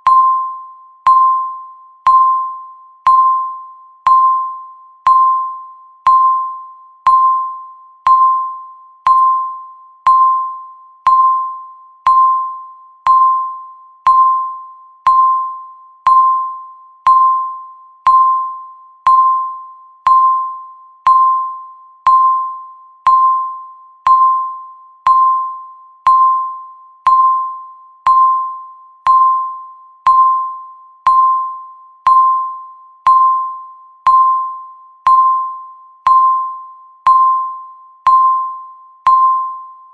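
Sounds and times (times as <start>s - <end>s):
timer ticks ringing pings: 0.0s - 39.8s.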